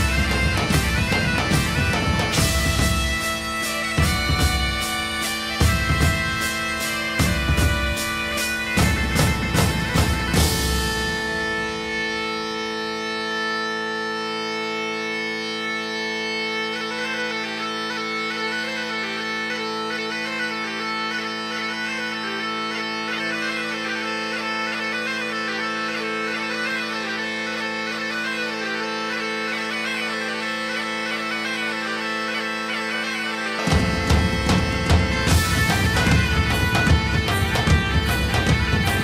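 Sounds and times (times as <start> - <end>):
bagpipe music: 0.0 - 39.0.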